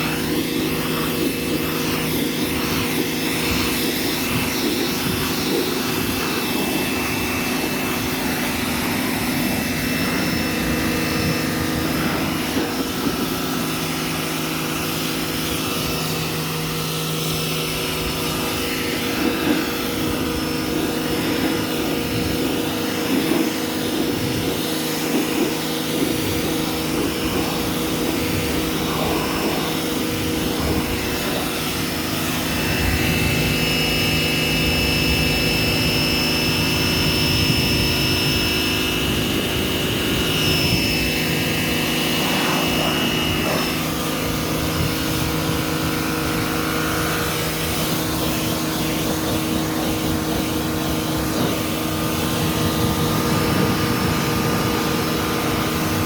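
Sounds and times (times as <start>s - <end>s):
high whine: 0.0s - 56.0s
machine low drone: 0.0s - 56.0s.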